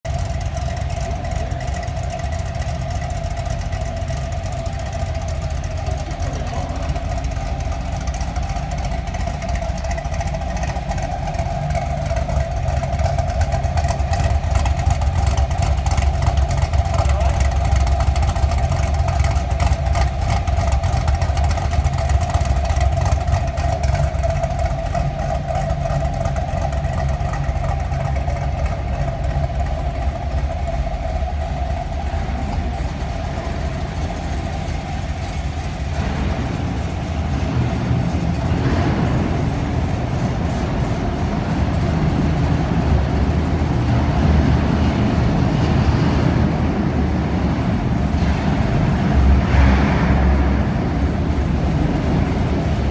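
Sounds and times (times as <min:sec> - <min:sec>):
car engine lopey idle: 0:00.0 - 0:52.9.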